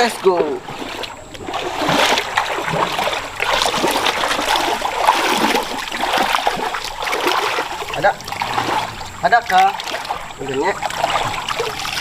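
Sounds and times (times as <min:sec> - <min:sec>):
people wading through shallow water: 0:00.0 - 0:12.0.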